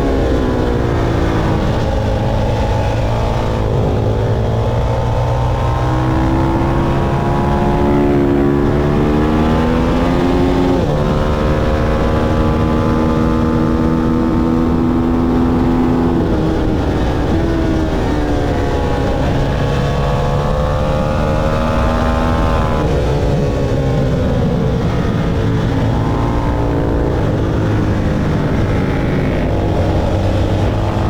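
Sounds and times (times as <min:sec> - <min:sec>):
motorcycle engine at full throttle: 0:00.0 - 0:31.0
wind noise: 0:00.0 - 0:31.0.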